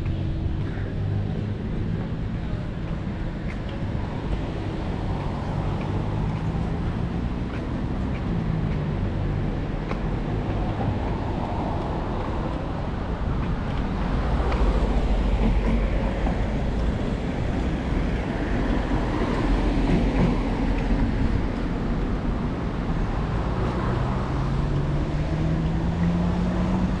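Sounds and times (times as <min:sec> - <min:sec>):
passing traffic rumble: 0:00.0 - 0:27.0.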